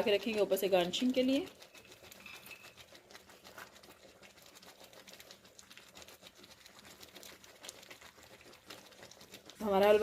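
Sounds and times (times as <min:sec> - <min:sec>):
spoon stirring in a pan: 0:00.0 - 0:10.0.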